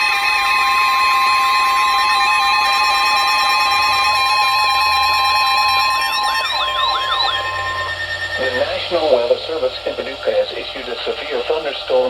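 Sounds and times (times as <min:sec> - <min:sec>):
sweeping siren-like glides: 0:00.0 - 0:10.4
loud steady alarm tone: 0:00.0 - 0:12.0.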